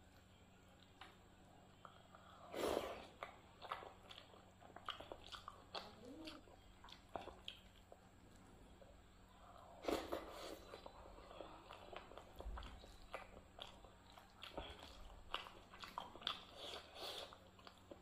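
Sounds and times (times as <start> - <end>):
chewing with wet mouth clicks: 3.0 - 18.0.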